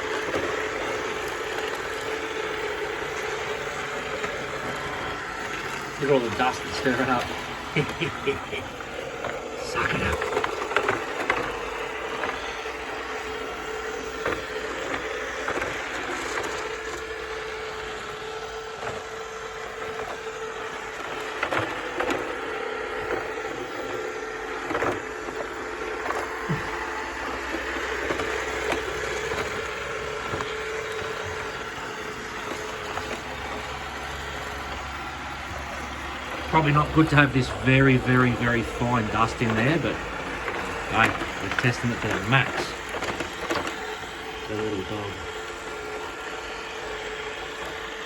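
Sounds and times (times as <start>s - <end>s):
robot vacuum motor hum: 0.0s - 48.0s.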